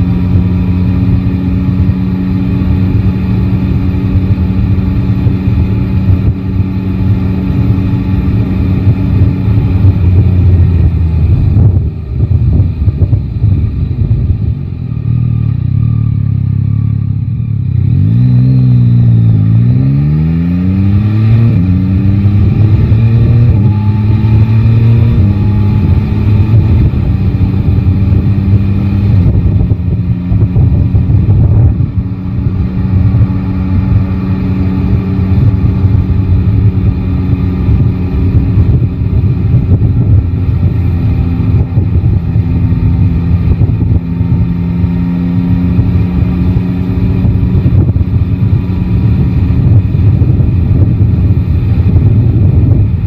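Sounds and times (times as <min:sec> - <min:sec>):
wind noise on microphone: 0:00.0 - 0:15.7, 0:17.8 - 0:53.0
motorcycle engine revving: 0:00.0 - 0:53.0.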